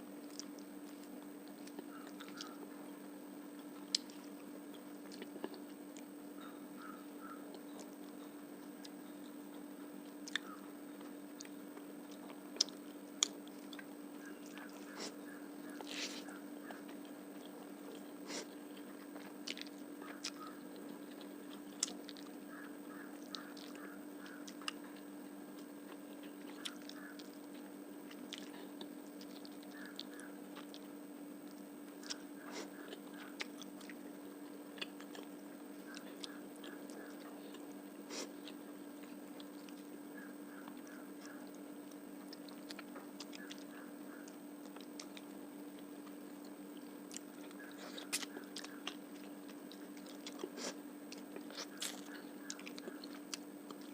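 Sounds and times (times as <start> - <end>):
steady low hum: 0.0 - 53.9
person chewing food: 0.2 - 2.8, 3.6 - 53.9.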